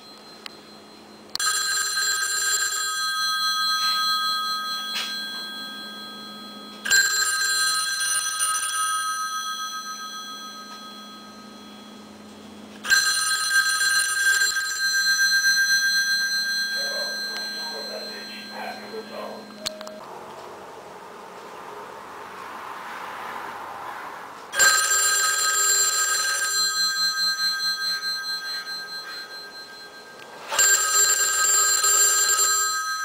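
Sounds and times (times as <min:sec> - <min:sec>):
telephone bell ringing: 0:00.0 - 0:20.0, 0:24.5 - 0:33.0.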